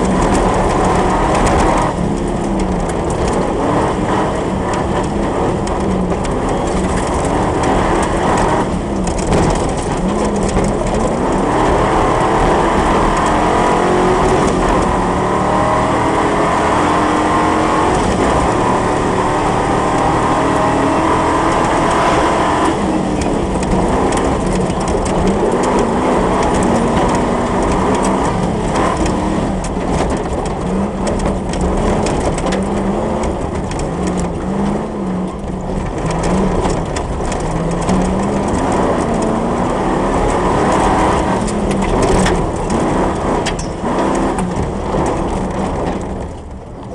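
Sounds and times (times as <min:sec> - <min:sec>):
gravel and tyre noise: 0:00.0 - 0:46.9
racing engine revving: 0:00.0 - 0:46.9.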